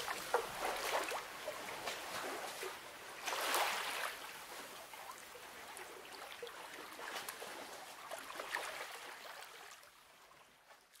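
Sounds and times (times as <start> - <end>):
sea water lapping: 0.0 - 9.9.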